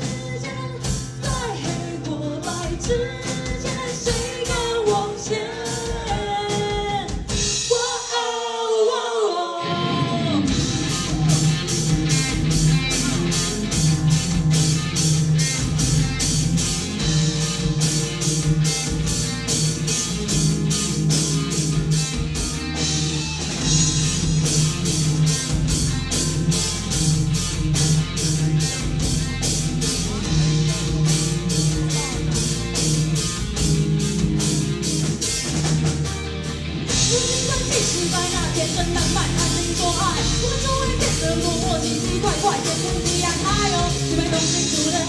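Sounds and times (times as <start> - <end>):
instrumental rock band playing: 0.0 - 7.8, 9.8 - 45.0.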